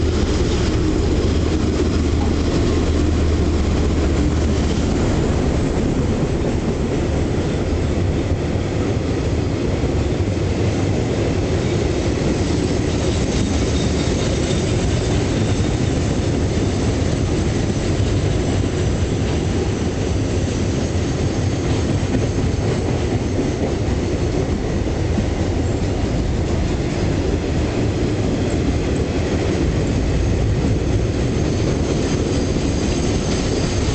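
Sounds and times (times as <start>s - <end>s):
freight train rolling past: 0.0s - 33.9s.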